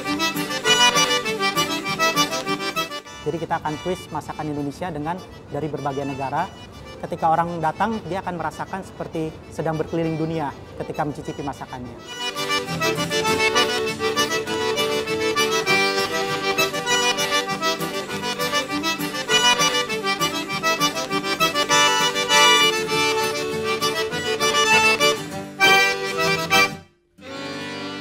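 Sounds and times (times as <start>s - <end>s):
background music with steady beat: 0.0s - 7.1s, 11.7s - 28.0s
held chord: 0.0s - 7.2s, 10.0s - 28.0s.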